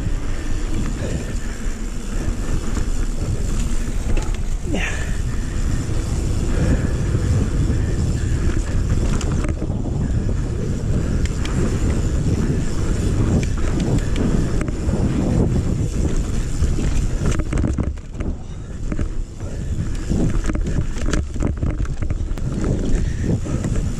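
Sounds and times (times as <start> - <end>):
bike clicks and rattles: 0.0 - 23.9
tyres rumbling on dirt trail: 0.0 - 23.9
wind rushing over microphone: 0.0 - 23.9.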